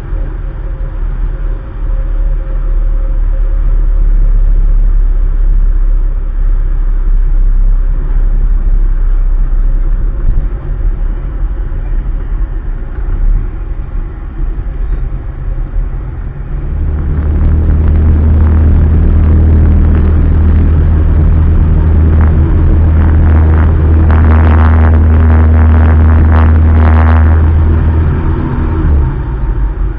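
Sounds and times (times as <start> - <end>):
aircraft engine and propeller drone: 0.0 - 29.9.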